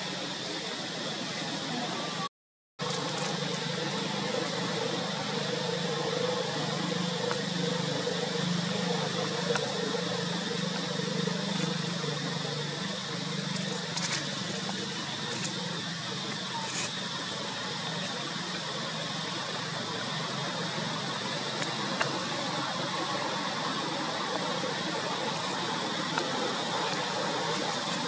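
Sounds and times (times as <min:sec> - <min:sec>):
continuous hiss: 0:00.0 - 0:28.0
low even hum: 0:00.0 - 0:28.0.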